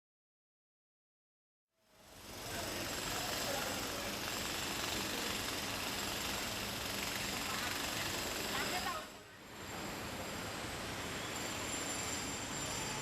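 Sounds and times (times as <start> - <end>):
traffic noise: 2.2 - 13.0.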